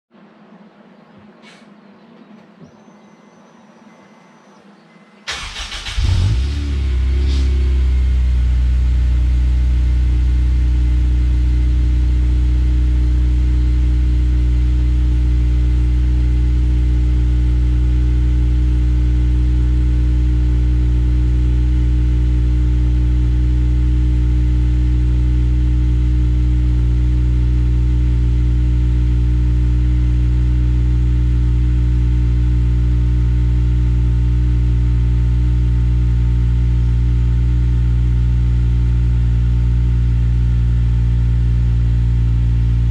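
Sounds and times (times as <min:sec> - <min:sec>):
car engine idling: 0:05.2 - 0:42.9.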